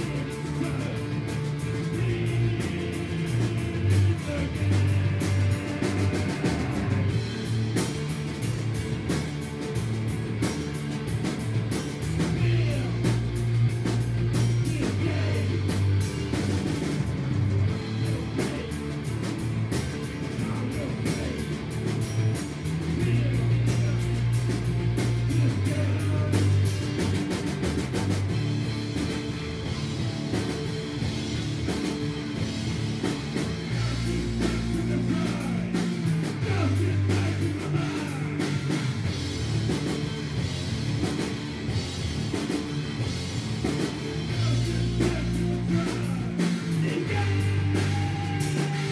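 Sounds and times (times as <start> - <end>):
drum kit: 0.0 - 48.9
electric guitar: 0.0 - 48.9
strong low notes: 0.0 - 48.9.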